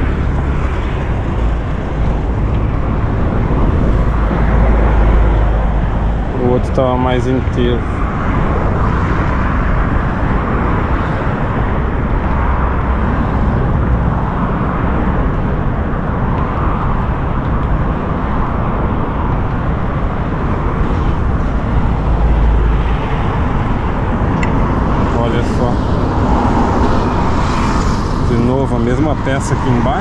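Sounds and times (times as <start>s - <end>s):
outdoor rushing noise: 0.0s - 30.0s
wind rumble on microphone: 0.0s - 30.0s.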